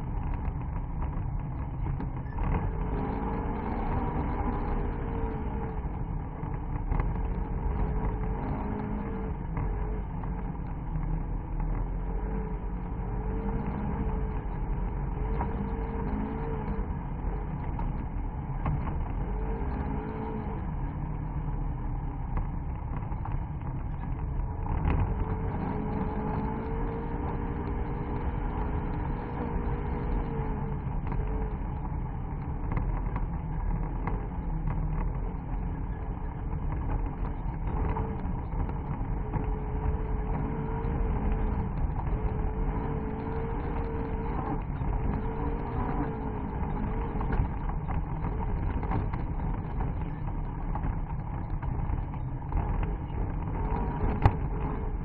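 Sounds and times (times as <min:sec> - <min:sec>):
tyres rumbling on dirt track: 0:00.0 - 0:55.0
vehicle engine under load: 0:00.0 - 0:55.0.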